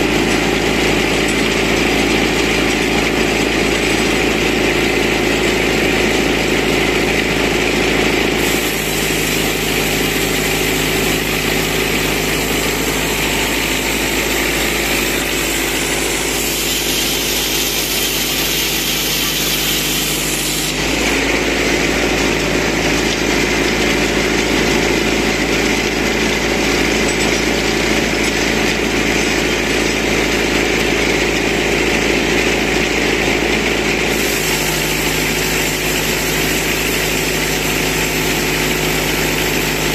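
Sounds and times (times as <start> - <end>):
band saw cutting log: 0.0 - 39.9
tractor engine running: 0.0 - 39.9.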